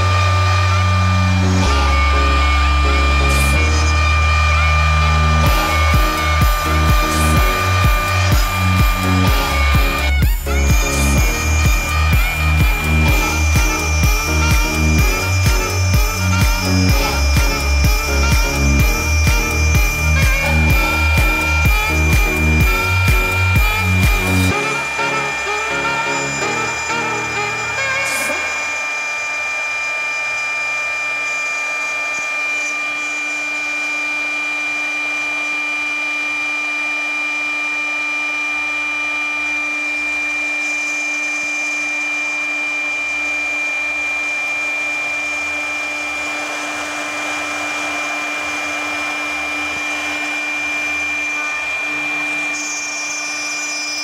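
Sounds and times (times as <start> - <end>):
router spindle high whine: 0.0 - 54.0.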